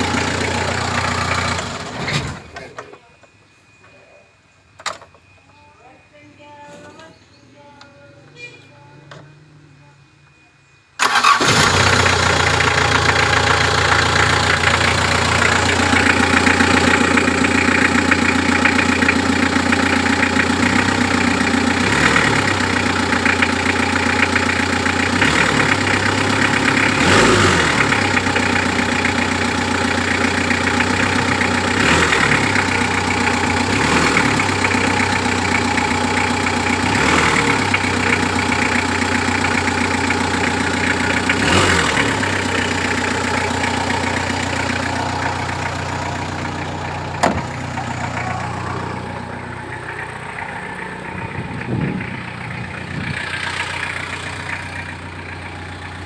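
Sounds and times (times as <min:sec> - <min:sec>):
van engine idling: 0:00.0 - 0:02.8, 0:11.0 - 0:56.0.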